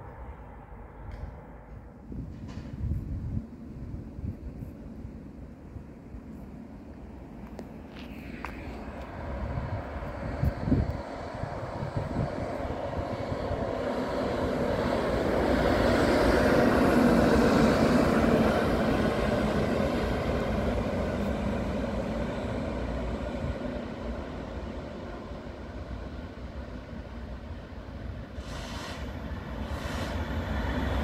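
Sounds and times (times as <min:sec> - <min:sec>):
electric locomotive passing: 0:00.0 - 0:31.0.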